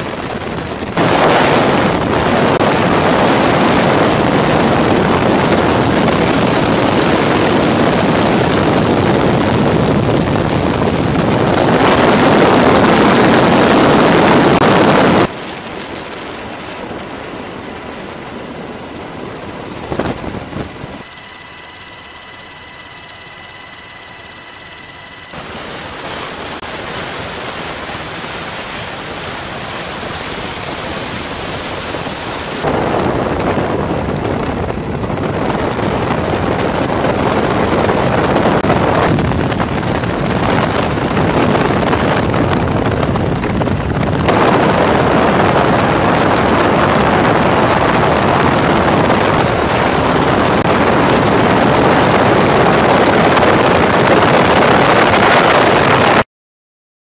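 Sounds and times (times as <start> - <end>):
helicopter rotor and wind rushing: 0.0 - 56.2.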